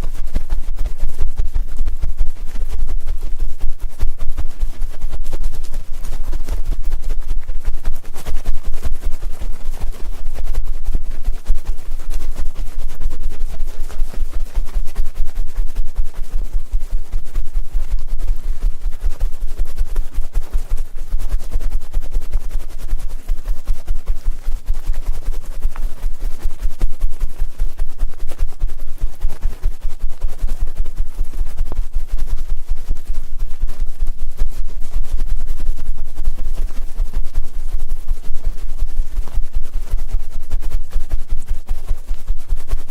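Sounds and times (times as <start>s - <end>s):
scratching on microphone: 0.0s - 42.9s.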